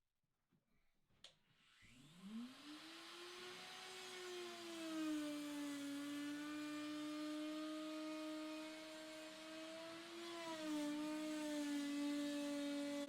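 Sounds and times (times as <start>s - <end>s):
wood router motor whine: 1.6s - 13.0s.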